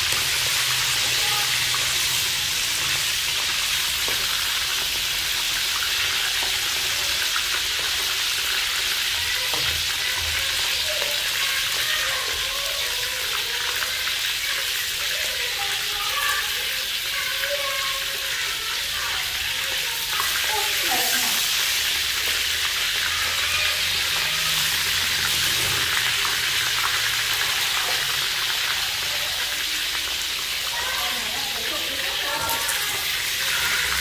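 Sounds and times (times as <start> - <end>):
frog sizzling in oil: 0.0 - 34.0.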